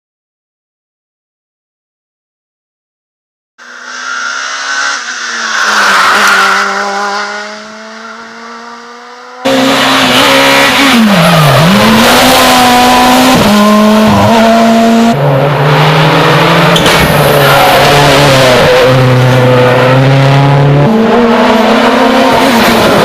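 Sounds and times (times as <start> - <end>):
rally car engine shifting gears: 3.6 - 23.0
rally car passing at full throttle: 3.6 - 23.0.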